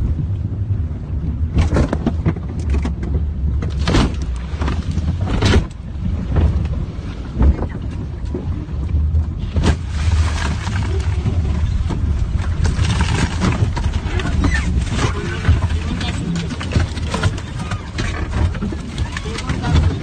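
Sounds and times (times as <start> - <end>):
floodwater surging against car: 2.6 - 20.0.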